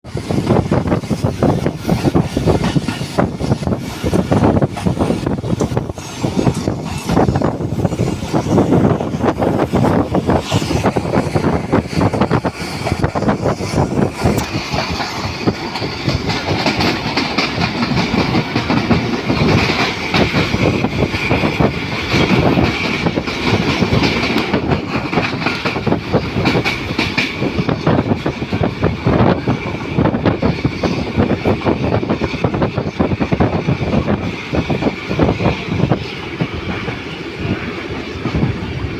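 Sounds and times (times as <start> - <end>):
train wheels rattling on track: 0.0 - 38.9.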